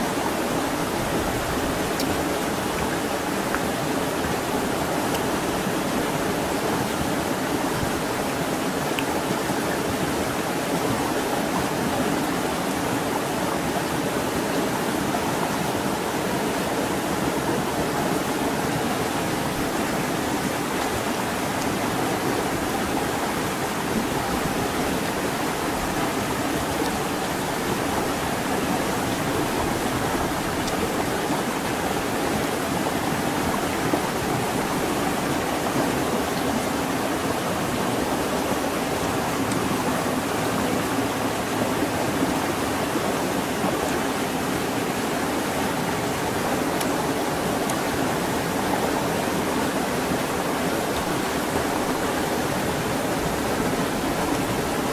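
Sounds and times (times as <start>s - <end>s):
running water rushing: 0.0s - 54.9s.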